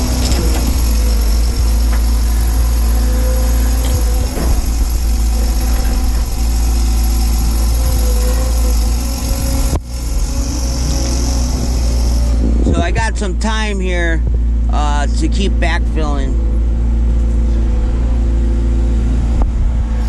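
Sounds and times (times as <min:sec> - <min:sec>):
excavator diesel engine humming: 0:00.0 - 0:20.0.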